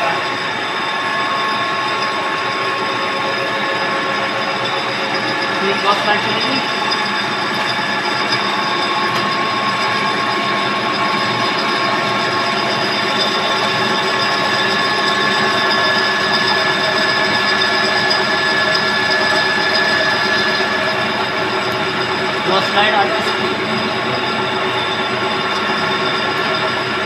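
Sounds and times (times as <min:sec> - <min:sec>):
gear whine: 0:00.0 - 0:27.0
lathe whirring: 0:00.0 - 0:27.0.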